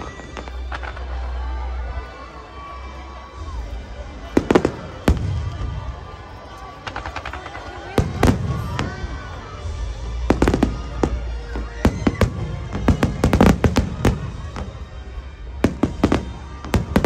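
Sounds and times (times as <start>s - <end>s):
fireworks bursting: 0.0s - 1.4s, 4.1s - 17.0s.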